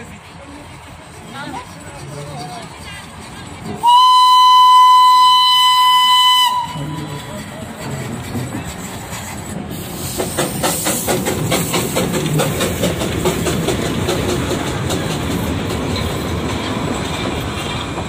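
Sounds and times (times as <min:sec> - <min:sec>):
steam locomotive beats: 0:00.0 - 0:18.0
train coaches rumbling by: 0:00.0 - 0:18.0.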